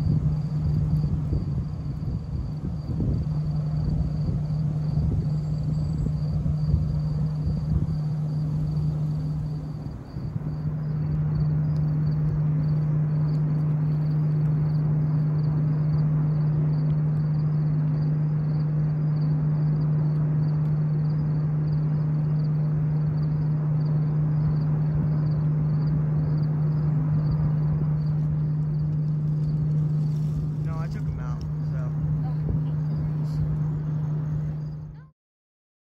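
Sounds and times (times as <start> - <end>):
steady low hum: 0.0 - 35.1.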